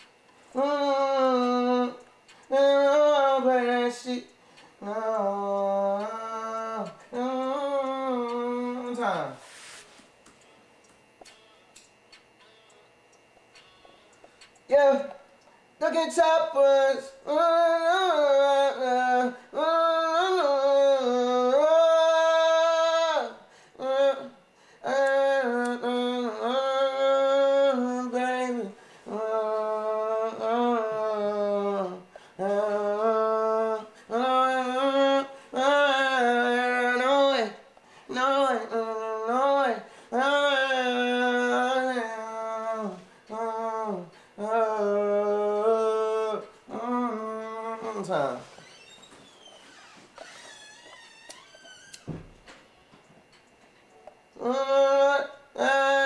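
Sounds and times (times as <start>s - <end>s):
man singing wordless melody: 0.0s - 9.6s, 14.6s - 48.7s, 54.3s - 56.0s.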